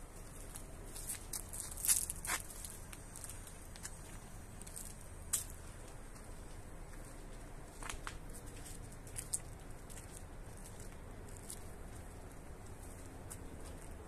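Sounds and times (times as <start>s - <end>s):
steady low rumble: 0.0s - 14.0s
sharp ticks and scuffs: 0.1s - 14.0s.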